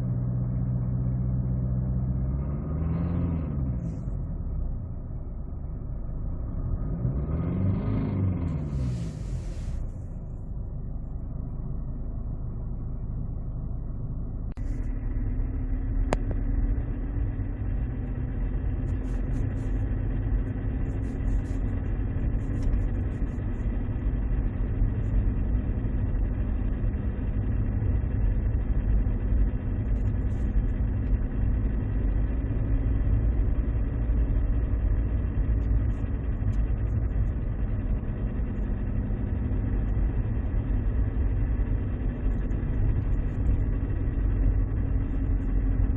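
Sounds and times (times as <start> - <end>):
diesel engine drone in cabin: 0.0 - 45.9.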